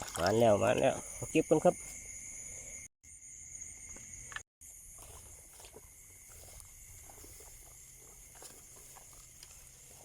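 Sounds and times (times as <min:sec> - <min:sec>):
night insects chorus: 0:00.0 - 0:10.0.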